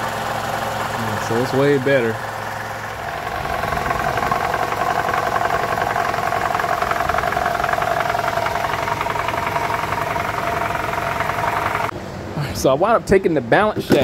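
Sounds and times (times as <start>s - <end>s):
car engine idling: 0.0s - 11.9s
fast rattle under car: 0.0s - 11.9s.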